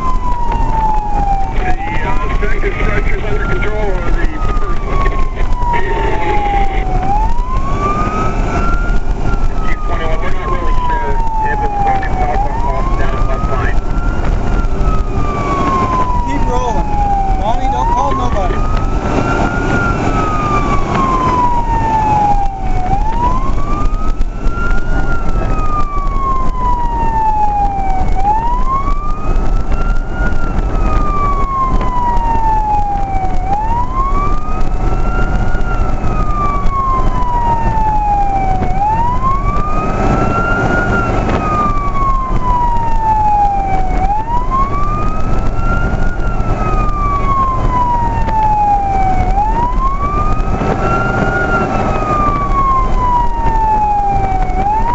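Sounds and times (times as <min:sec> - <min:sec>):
engine and road noise: 0:00.0 - 0:54.9
fire engine siren wailing: 0:00.0 - 0:54.9.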